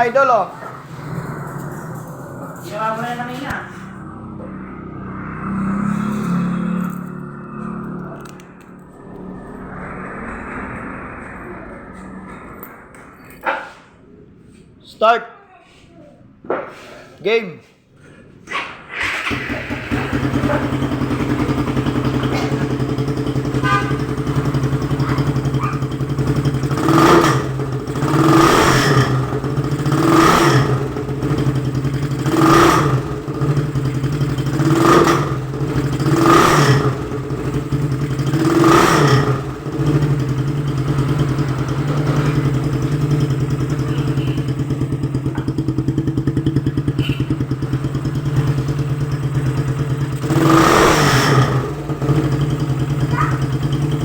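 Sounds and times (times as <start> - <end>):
motorcycle engine idling and revving: 0.0 - 14.6, 18.7 - 54.0.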